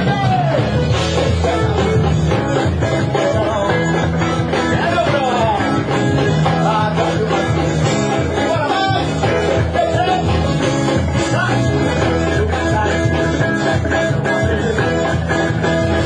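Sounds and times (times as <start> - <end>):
distorted electric guitars: 0.0 - 16.0
drum beat: 0.0 - 16.0.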